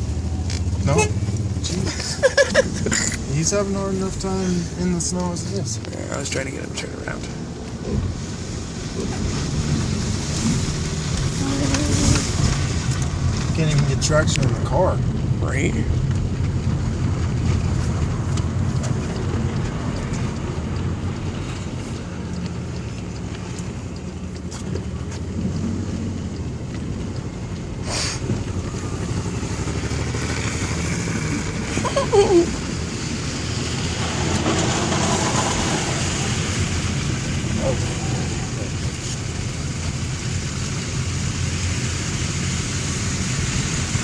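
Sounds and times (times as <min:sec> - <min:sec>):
car engine and tyres rumbling: 0:00.0 - 0:44.0.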